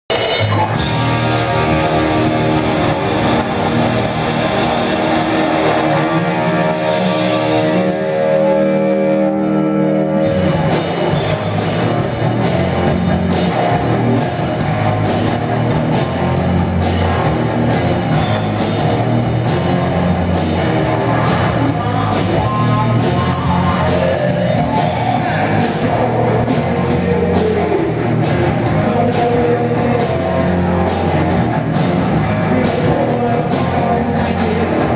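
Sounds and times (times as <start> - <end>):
live rock band playing: 0.1 - 34.9.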